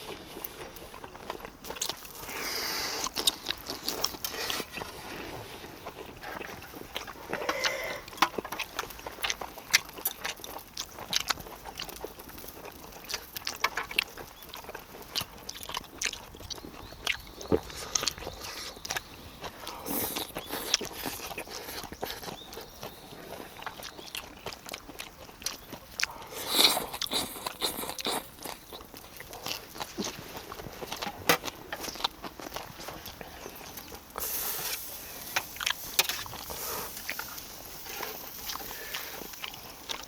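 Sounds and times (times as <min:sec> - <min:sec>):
person chewing meat: 0:00.0 - 0:40.0.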